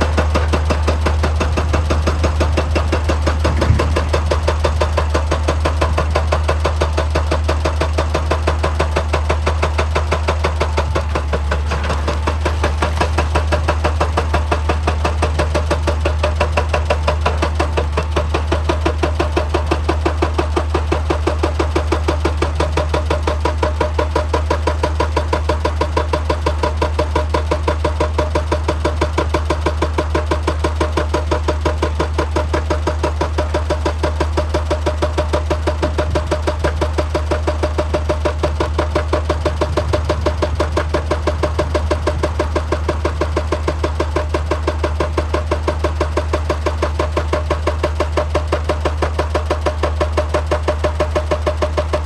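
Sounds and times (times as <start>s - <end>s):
excavator running with knocking: 0.0s - 52.0s.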